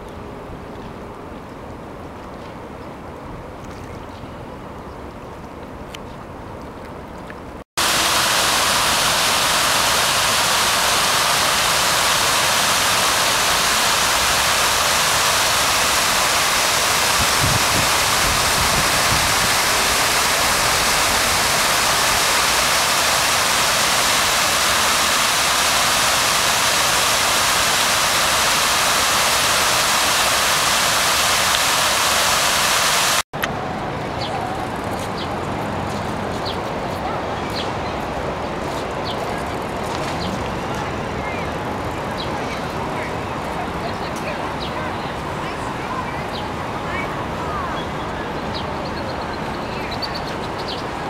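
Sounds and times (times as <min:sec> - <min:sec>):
fountain water splashing: 0:07.8 - 0:35.4, 0:36.4 - 0:51.0.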